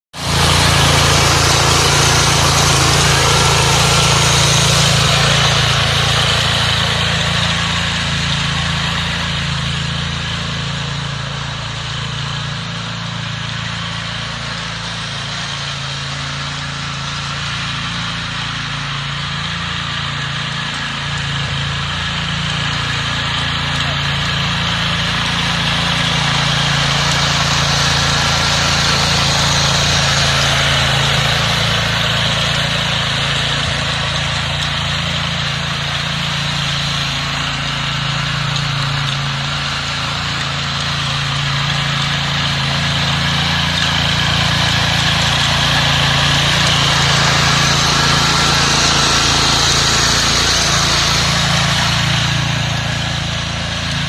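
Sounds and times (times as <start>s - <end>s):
tiller engine running: 0.1s - 54.0s
tines churning dry soil: 0.1s - 54.0s.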